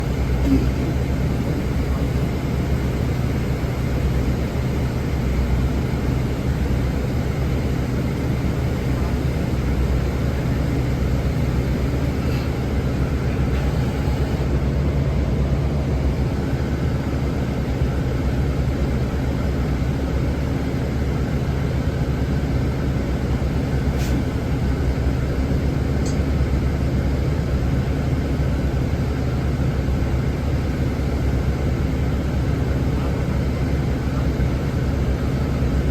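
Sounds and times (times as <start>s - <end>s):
bus engine droning: 0.0s - 35.9s.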